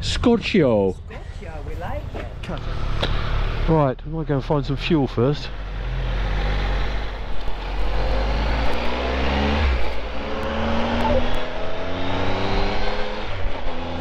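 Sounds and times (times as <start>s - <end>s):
motorcycle engine accelerating: 2.4s - 14.0s.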